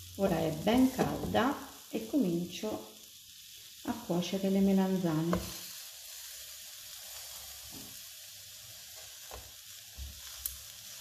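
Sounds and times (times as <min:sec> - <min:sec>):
eggplant slices sizzling in a pan: 0:00.0 - 0:11.0.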